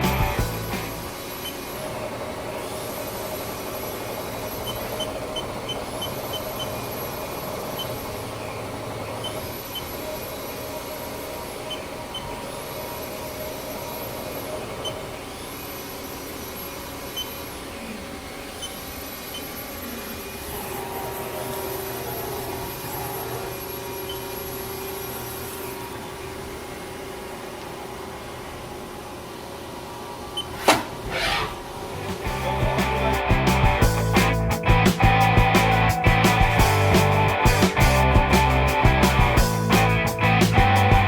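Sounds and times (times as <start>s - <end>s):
lathe mechanical hum: 0.0s - 33.2s.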